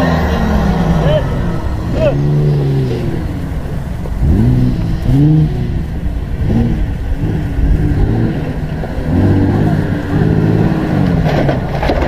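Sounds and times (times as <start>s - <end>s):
engine revving in bursts: 0.0s - 12.0s.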